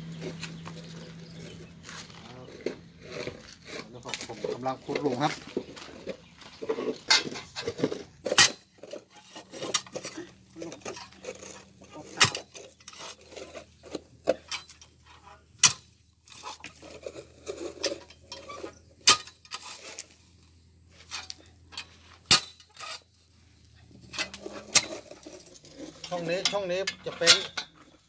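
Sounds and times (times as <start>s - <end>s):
post-hole digger striking soil: 0.0s - 20.2s, 21.0s - 23.1s, 23.8s - 28.0s
blades scraping and knocking: 0.0s - 20.3s, 20.9s - 28.0s.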